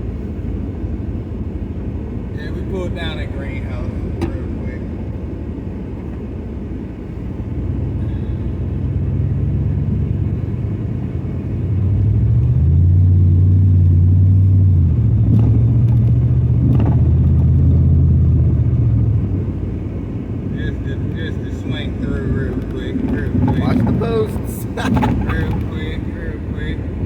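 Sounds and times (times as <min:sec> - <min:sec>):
pickup engine droning: 0:00.0 - 0:27.0.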